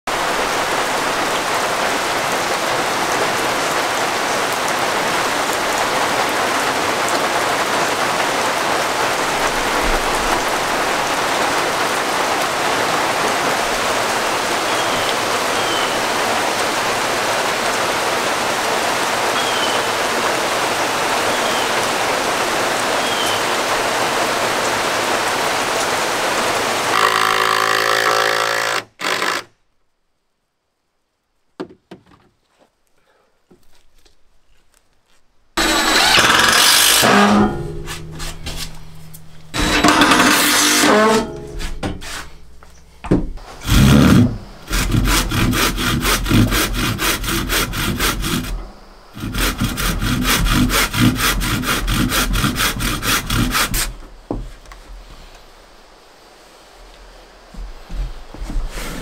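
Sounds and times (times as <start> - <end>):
rain falling: 0.0 - 29.4, 33.6 - 59.0.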